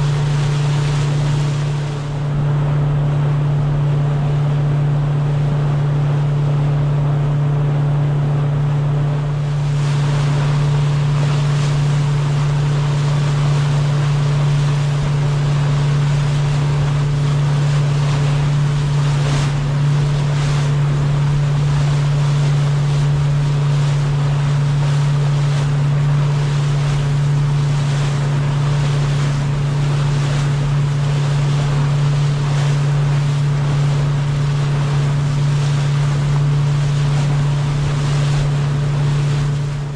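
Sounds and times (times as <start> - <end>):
boat engine drone: 0.0 - 39.9
wake splashing along hull: 0.0 - 39.9.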